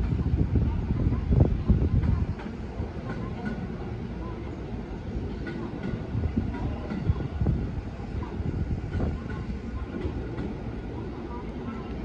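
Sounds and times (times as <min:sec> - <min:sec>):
wind gusting on microphone: 0:00.0 - 0:04.0, 0:04.7 - 0:12.0
electric train rumbling: 0:00.0 - 0:12.0.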